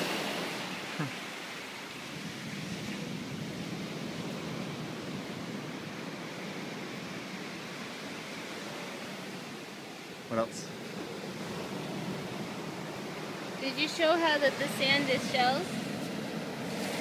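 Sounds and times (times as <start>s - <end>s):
surf on a sandy beach: 0.0s - 17.0s.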